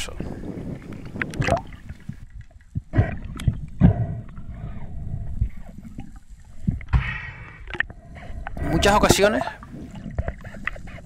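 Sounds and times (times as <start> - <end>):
underwater water rumble: 0.0 - 11.0.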